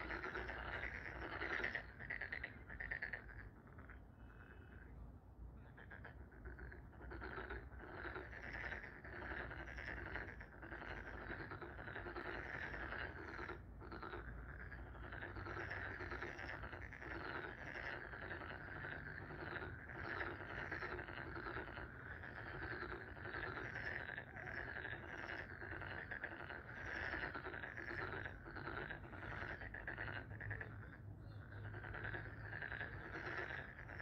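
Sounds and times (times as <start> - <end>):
chorus of animal calls: 5.6 - 34.0.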